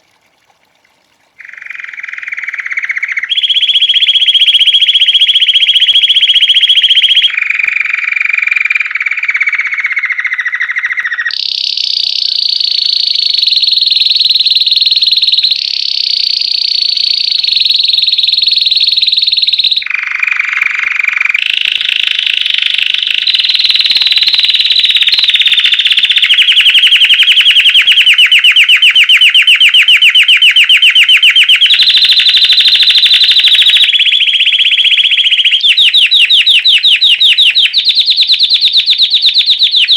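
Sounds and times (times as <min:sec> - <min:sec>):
canary singing trills: 0:01.4 - 0:39.9.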